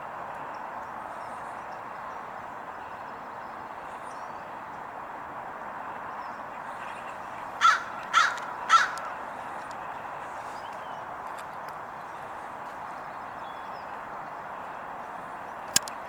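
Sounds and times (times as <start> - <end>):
distant road traffic hum: 0.0 - 16.0.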